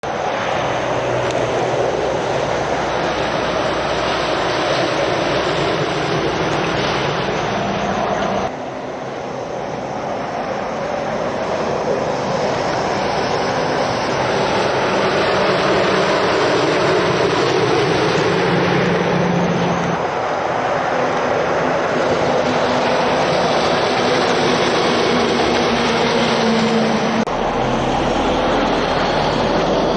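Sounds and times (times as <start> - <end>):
heavy lorries passing: 0.0 - 29.9.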